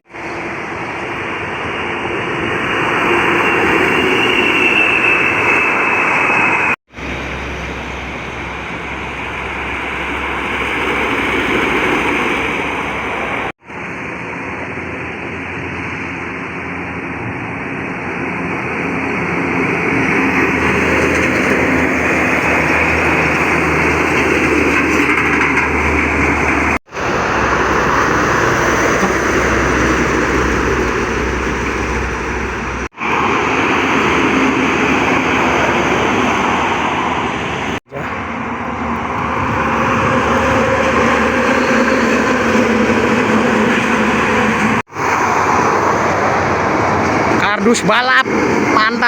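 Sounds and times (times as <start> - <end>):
trucks passing at speed: 0.0 - 49.0.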